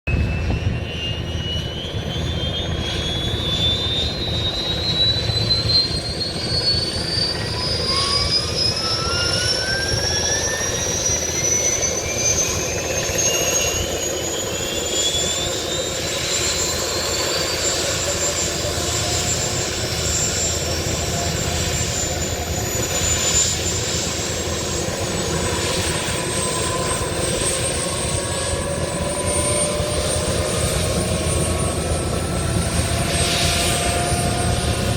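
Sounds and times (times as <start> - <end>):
helicopter turbine whine: 0.1 - 34.9.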